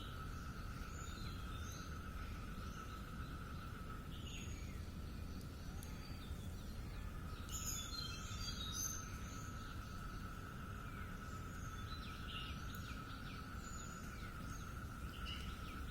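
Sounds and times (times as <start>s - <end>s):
insect drone: 0.0s - 15.9s.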